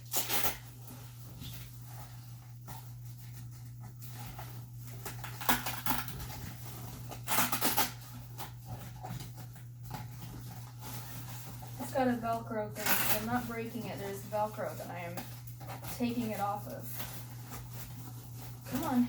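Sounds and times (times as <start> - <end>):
fabric and frame scratching: 0.0 - 19.0
steady low hum: 0.0 - 19.0.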